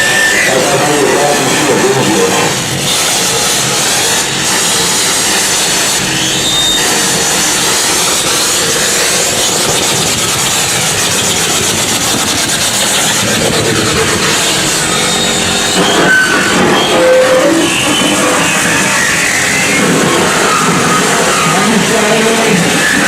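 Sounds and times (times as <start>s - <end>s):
harsh distorted noise music: 0.0s - 23.0s.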